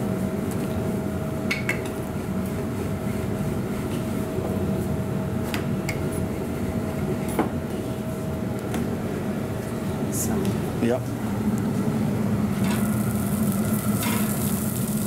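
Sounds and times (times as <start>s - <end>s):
kitchen ventilation hum: 0.0s - 15.0s.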